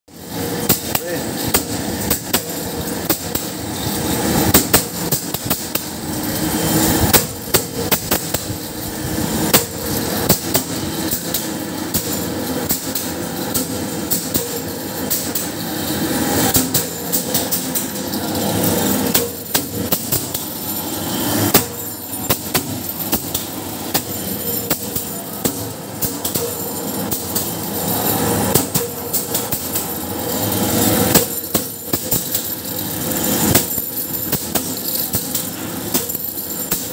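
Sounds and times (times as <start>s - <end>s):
machine hum: 0.2s - 36.9s.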